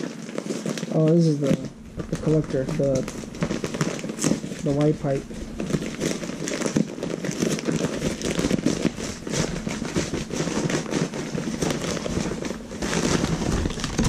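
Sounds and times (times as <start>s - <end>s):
packing paper rustling: 0.0s - 14.0s.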